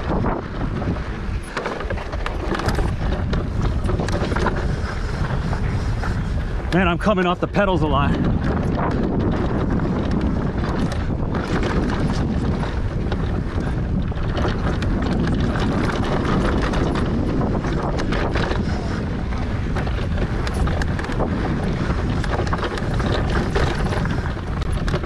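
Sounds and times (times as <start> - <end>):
bike clicks and rattles: 0.0 - 25.0
bike tyre noise on dirt: 0.0 - 25.0
wind rushing over microphone: 0.0 - 25.0.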